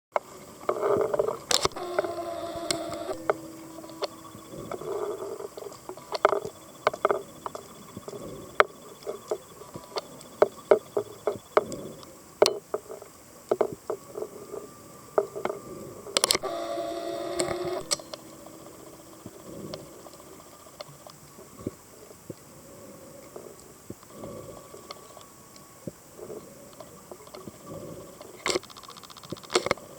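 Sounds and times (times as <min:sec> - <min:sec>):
underwater clicks and crackles: 0:00.2 - 0:16.4, 0:17.4 - 0:22.5, 0:23.2 - 0:29.9
diver regulator breathing: 0:00.8 - 0:12.2, 0:14.0 - 0:20.8, 0:21.4 - 0:25.3, 0:26.1 - 0:28.6.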